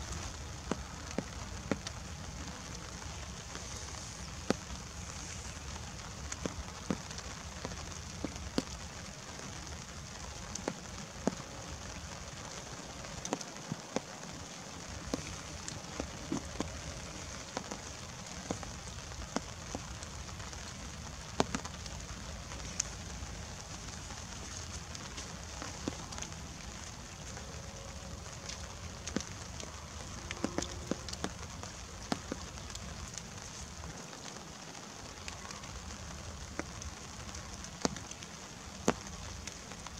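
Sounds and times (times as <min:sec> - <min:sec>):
light rain hissing: 0:00.0 - 0:39.9
raindrops tapping: 0:00.0 - 0:39.9.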